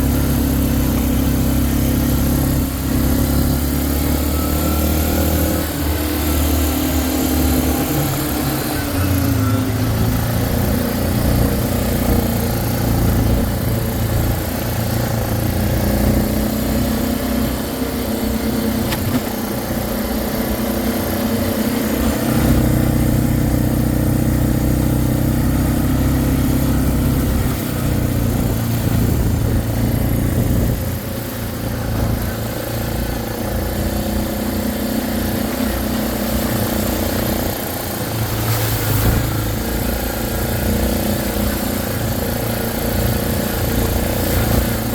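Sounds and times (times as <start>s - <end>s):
atv engine revving: 0.0s - 44.9s.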